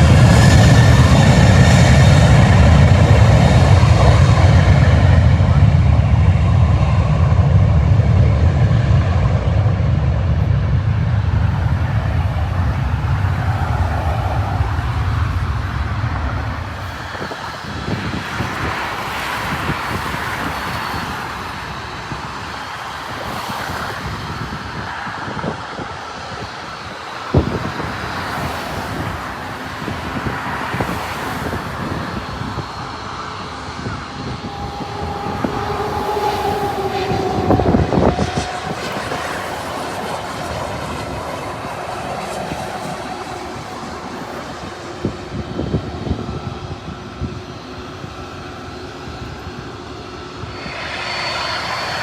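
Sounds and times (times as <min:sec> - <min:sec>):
jet engine roar: 0:00.0 - 0:52.0
wind buffeting microphone: 0:00.0 - 0:52.0.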